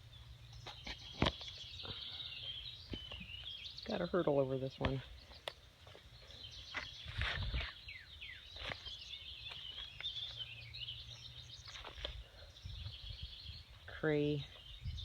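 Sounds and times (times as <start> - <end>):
birds chirping and singing: 0.0 - 15.0
footsteps climbing over a log: 0.6 - 3.6, 4.8 - 13.9.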